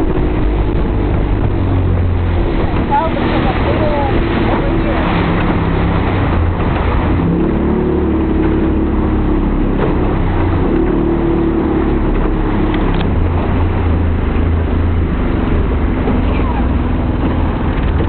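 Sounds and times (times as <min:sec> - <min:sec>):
motorboat engine drone: 0:00.0 - 0:18.0.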